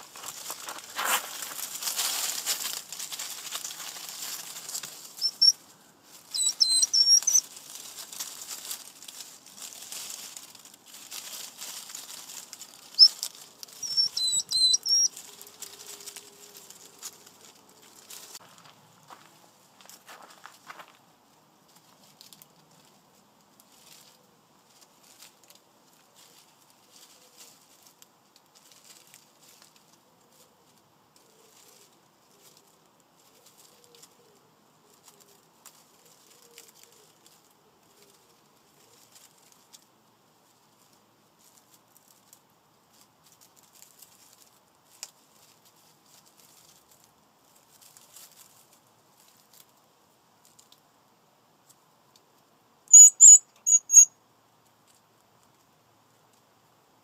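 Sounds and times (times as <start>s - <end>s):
hedgehogs moving over dry leaves: 0.0s - 57.0s.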